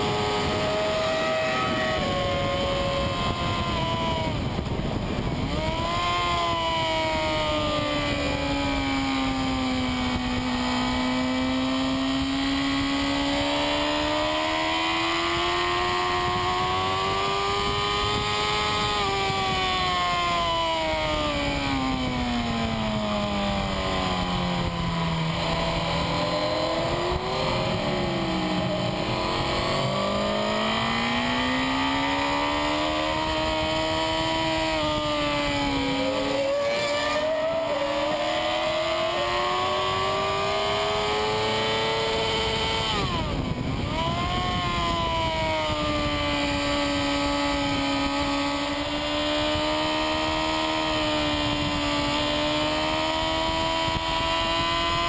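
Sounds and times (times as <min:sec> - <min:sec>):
wind rush: 0:00.0 - 0:11.0, 0:15.4 - 0:49.6
racing motorcycle engine: 0:00.0 - 0:55.0.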